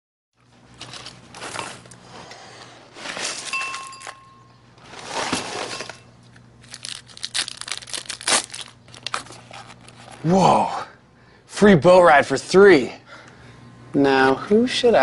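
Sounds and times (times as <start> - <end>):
low steady hum: 0.4 - 15.0.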